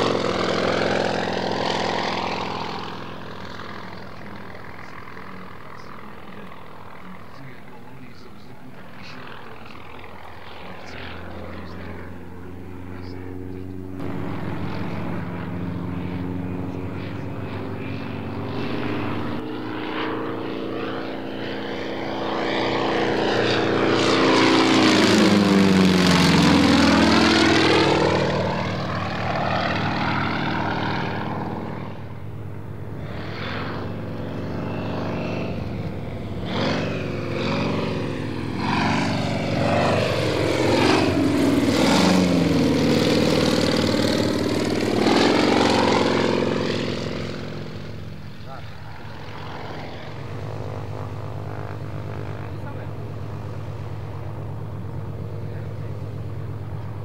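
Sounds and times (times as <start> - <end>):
radial aircraft engine and propeller: 0.0 - 57.0.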